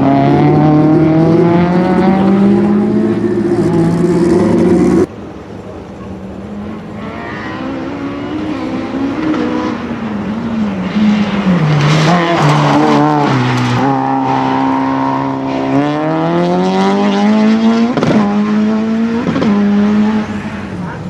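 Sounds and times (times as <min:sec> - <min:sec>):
racing car engine revving: 0:00.0 - 0:05.1, 0:06.6 - 0:20.7.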